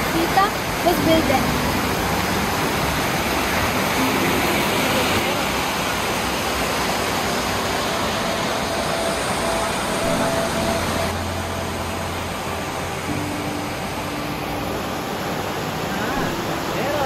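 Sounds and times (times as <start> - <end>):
stream pouring over rocks: 0.0 - 17.0.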